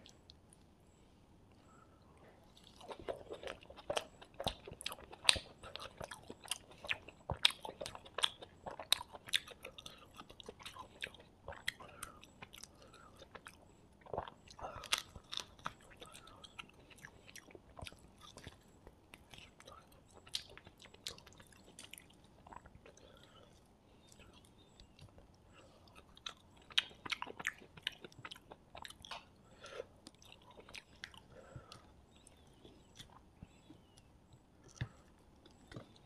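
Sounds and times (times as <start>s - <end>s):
chewing and crunching: 2.4s - 36.0s.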